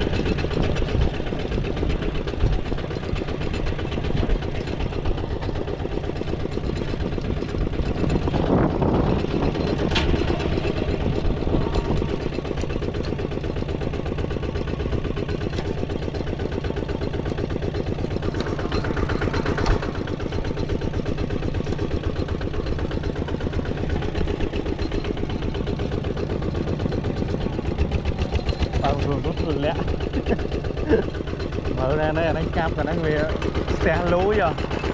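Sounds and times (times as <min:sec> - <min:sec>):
engine running with rapid pulse: 0:00.0 - 0:34.9.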